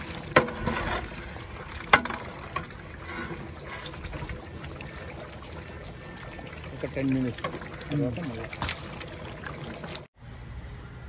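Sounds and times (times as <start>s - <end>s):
thick liquid sloshing in pot: 0.0s - 10.2s.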